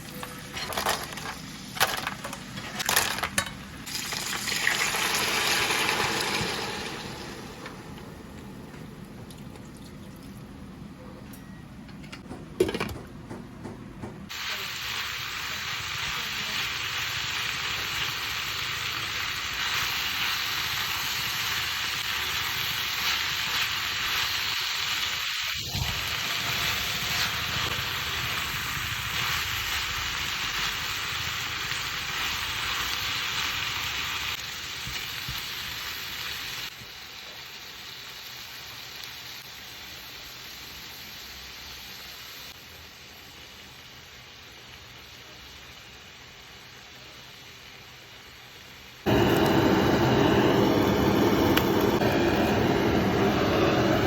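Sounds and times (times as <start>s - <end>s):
steady cooking hiss: 0.0s - 10.8s, 14.2s - 54.0s.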